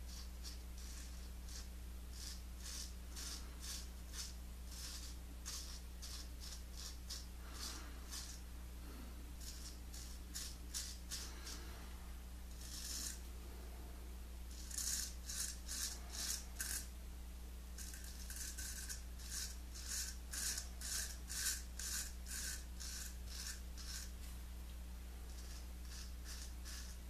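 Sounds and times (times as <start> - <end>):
straight razor scraping stubble: 0.0 - 8.5, 9.4 - 11.7, 12.5 - 13.3, 14.5 - 16.9, 17.8 - 24.2, 25.3 - 27.0.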